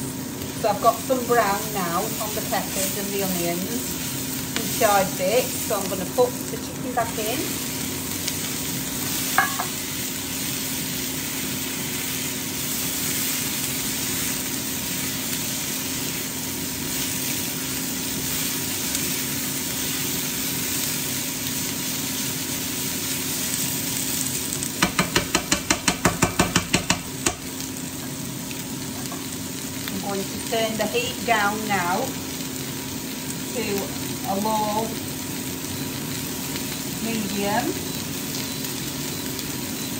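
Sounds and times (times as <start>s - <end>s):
air fryer humming: 0.0s - 39.9s
food sizzling in frying pan: 0.0s - 39.9s.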